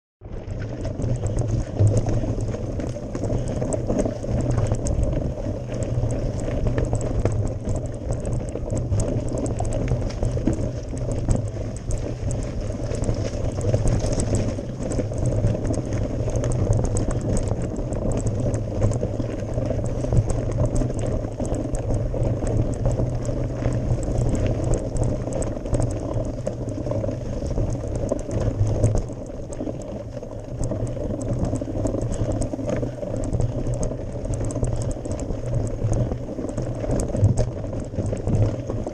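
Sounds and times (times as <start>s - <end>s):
bike tyres rumbling on gravel: 0.2s - 38.9s
stones and bike clicking: 0.2s - 38.9s.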